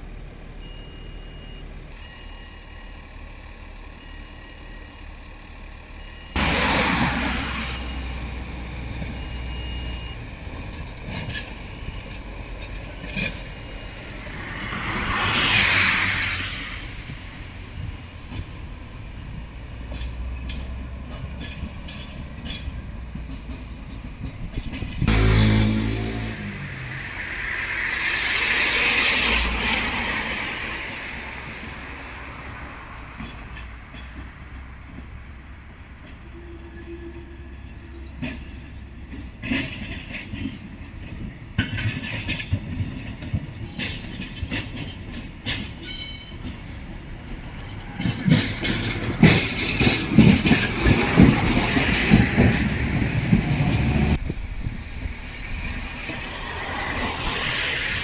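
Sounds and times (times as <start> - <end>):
rush of rail noise: 0.0 - 58.0
train rumble: 0.0 - 58.0
wheels clicking over rail joints: 0.1 - 58.0.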